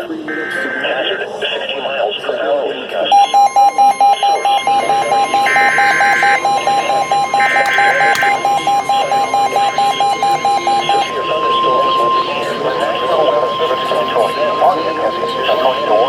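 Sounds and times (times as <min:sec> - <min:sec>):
buzzy data bursts: 0:00.0 - 0:01.6, 0:03.1 - 0:16.0
electronic alarm beeping rapidly: 0:00.3 - 0:01.3, 0:03.1 - 0:16.0
steady alert tone: 0:00.3 - 0:01.4, 0:03.1 - 0:16.0.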